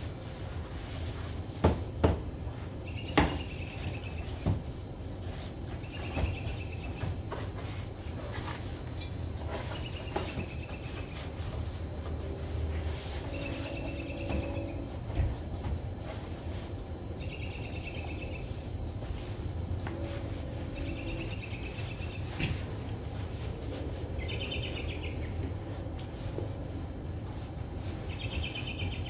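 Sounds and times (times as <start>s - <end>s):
brush scrubbing a car: 0.0s - 29.0s.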